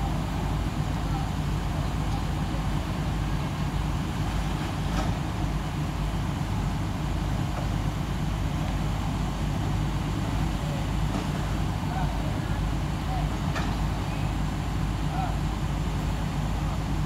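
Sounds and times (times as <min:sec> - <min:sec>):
heavy machinery engine humming: 0:00.0 - 0:17.0.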